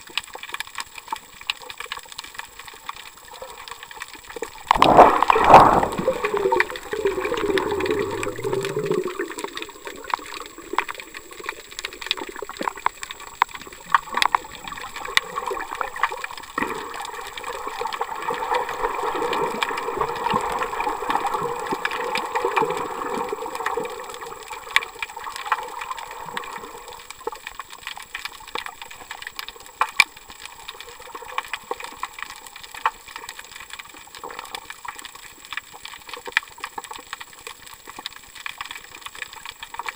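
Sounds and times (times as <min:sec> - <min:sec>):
clicks and crackles: 0:00.0 - 0:39.9
gurgling water underwater: 0:00.0 - 0:39.9
underwater rush of water: 0:00.0 - 0:39.9.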